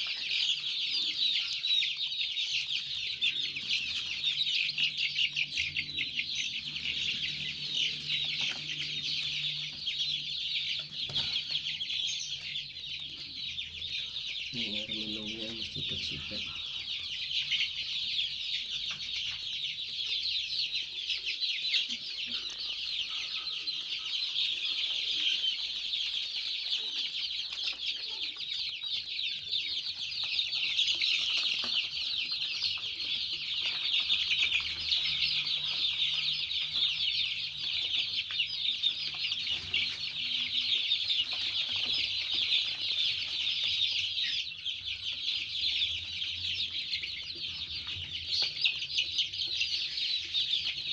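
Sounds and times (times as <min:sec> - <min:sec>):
chicks peeping: 0:00.0 - 0:50.9.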